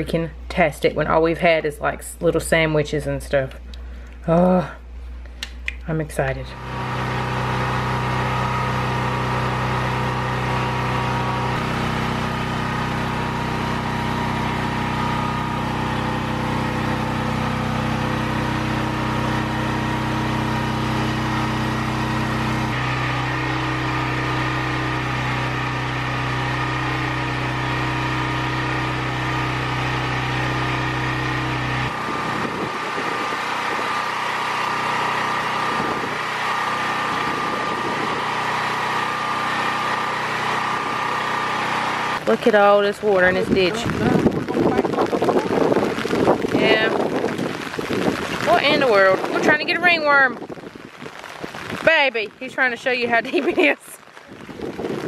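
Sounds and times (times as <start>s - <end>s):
generator engine running: 0.0s - 55.0s
rain hissing: 6.5s - 55.0s.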